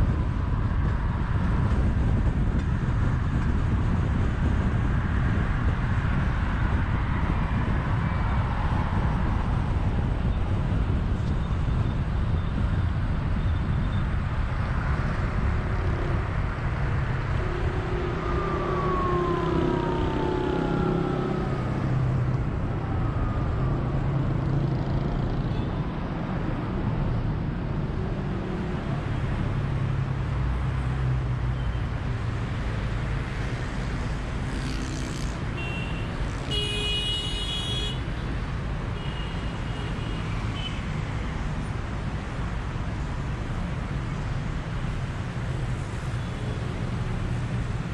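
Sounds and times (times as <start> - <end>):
car road noise: 0.0 - 47.9
vehicles passing: 0.0 - 47.9.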